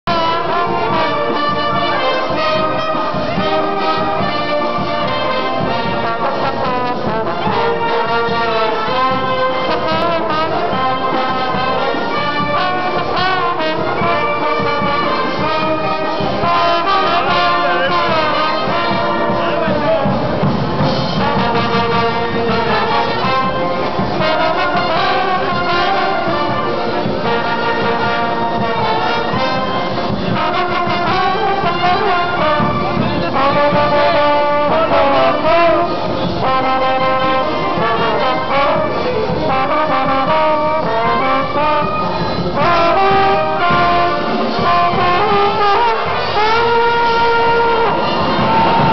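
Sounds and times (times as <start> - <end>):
slide trombone melody: 0.0 - 48.9.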